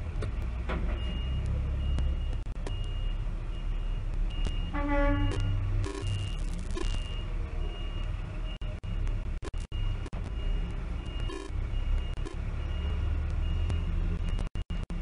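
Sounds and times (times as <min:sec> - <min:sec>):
truck engine rumble: 0:00.0 - 0:14.9.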